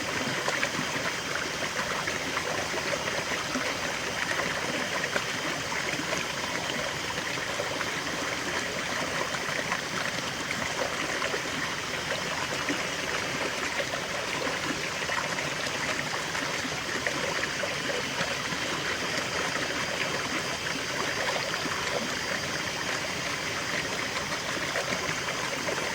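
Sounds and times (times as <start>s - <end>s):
river water flowing over stones: 0.0s - 25.9s.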